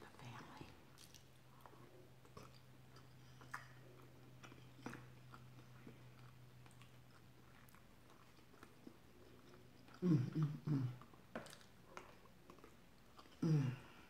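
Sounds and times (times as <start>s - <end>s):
low steady hum: 0.0s - 14.0s
chewing wet mouth noises: 0.9s - 14.0s.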